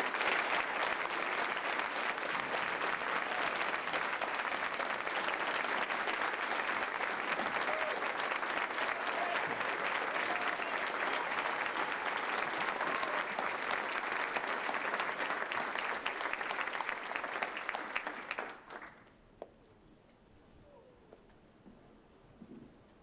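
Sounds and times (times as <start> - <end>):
audience applauding: 0.0 - 19.1.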